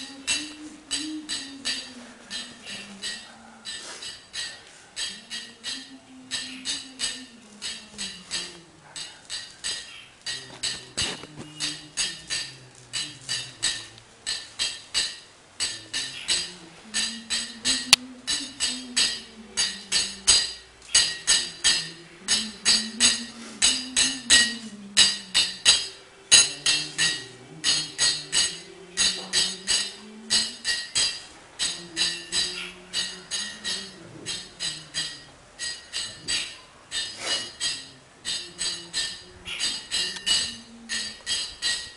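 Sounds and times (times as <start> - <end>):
man chanting: 0.0 - 14.6, 15.6 - 41.5
hand cymbals clashing: 0.0 - 41.9.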